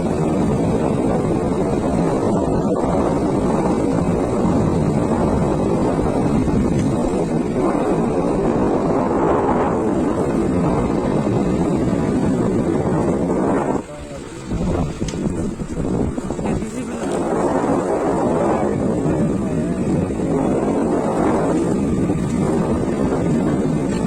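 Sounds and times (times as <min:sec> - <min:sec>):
road noise: 0:00.0 - 0:24.0
scooter running: 0:00.0 - 0:24.0
wind rush on microphone: 0:00.0 - 0:24.0.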